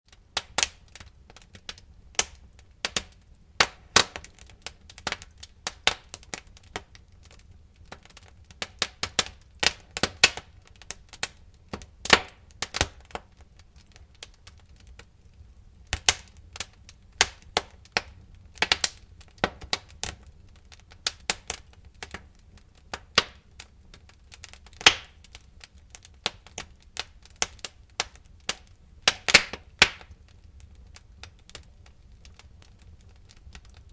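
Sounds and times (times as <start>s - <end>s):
campfire crackling and popping: 0.1s - 33.9s.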